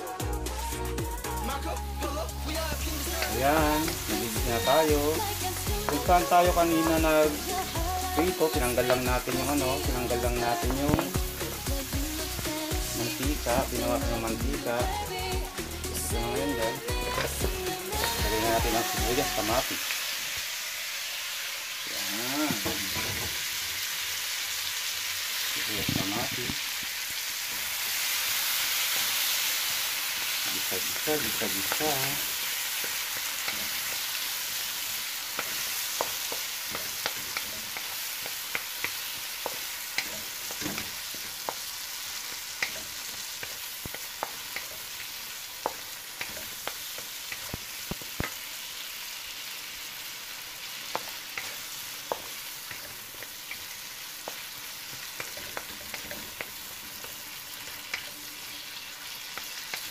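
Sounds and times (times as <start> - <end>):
vegetables sizzling in oil: 0.0 - 59.9.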